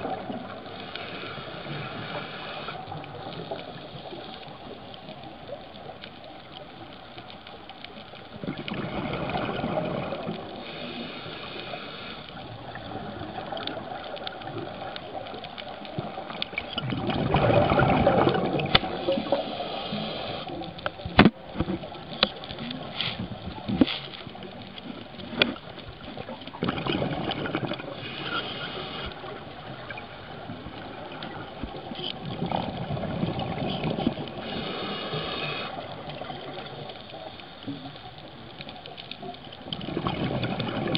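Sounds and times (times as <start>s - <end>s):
steady hiss: 0.0s - 8.6s, 10.1s - 16.8s, 18.8s - 26.6s, 27.8s - 32.3s, 33.6s - 39.8s
underwater bubbles rushing: 0.0s - 40.9s.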